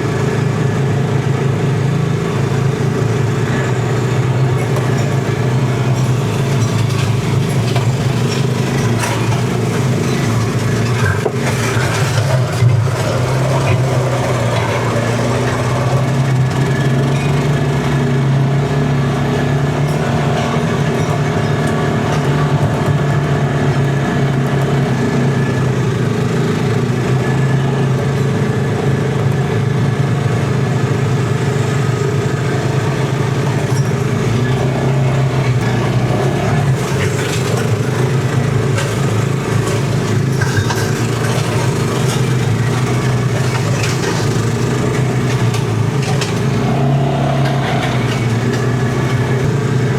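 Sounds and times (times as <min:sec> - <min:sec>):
mower engine humming: 0:00.0 - 0:49.9.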